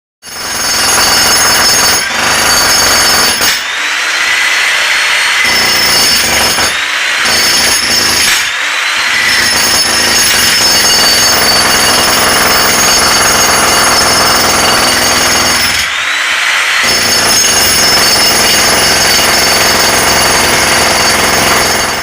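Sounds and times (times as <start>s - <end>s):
jackhammer running: 0.2s - 22.0s.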